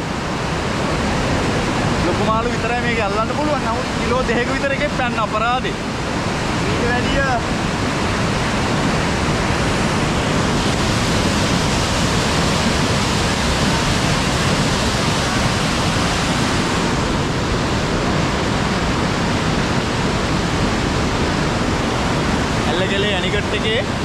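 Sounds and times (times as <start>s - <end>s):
water rushing over spillway: 0.0s - 24.0s.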